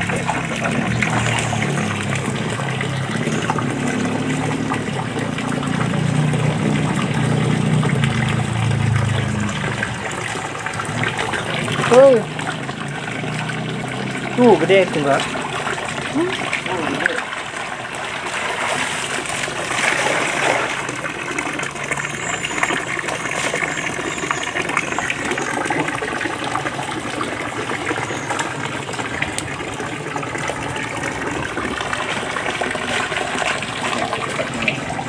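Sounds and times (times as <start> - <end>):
water gushing: 0.0 - 35.0.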